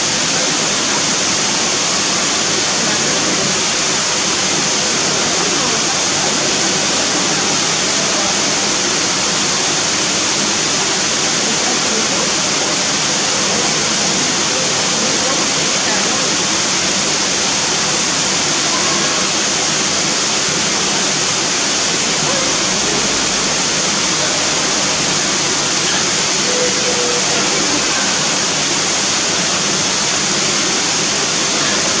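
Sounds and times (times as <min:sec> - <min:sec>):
falling water rushing: 0:00.0 - 0:32.0.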